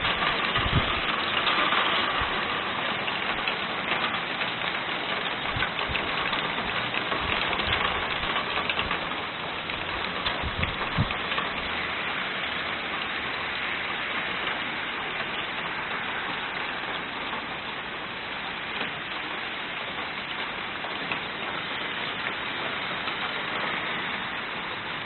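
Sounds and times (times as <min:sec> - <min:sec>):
hail falling: 0:00.0 - 0:25.0
sharp hail ticks: 0:00.0 - 0:25.0.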